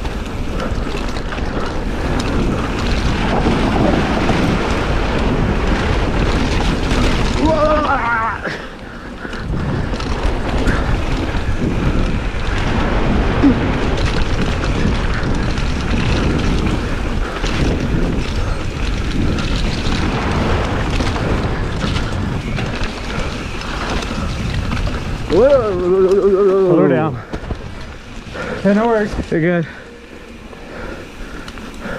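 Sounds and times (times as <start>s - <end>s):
bike rattling: 0.0s - 31.9s
tyres rumbling over dirt: 0.0s - 31.9s
wind buffeting microphone: 0.0s - 31.9s.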